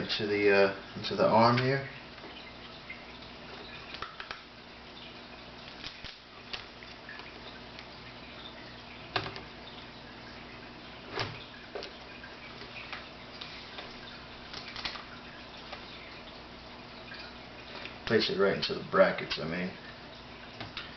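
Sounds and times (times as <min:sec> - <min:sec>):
low background hum: 0:00.0 - 0:20.9.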